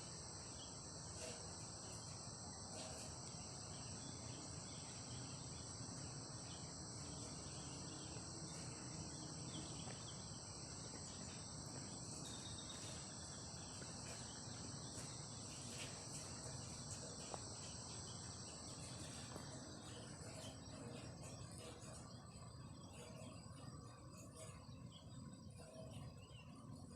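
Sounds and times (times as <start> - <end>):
insect chorus trilling: 0.0 - 26.9.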